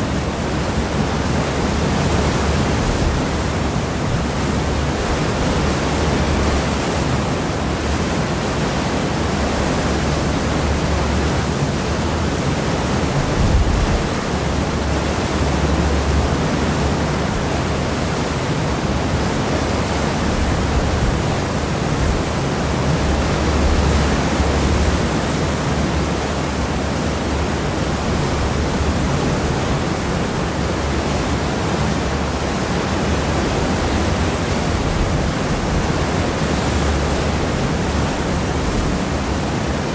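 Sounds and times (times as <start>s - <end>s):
water rushing in ship wake: 0.0s - 39.9s.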